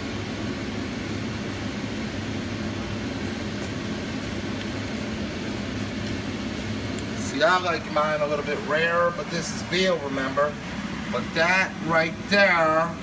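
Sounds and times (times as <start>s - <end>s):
fan whirring hum: 0.0s - 13.0s.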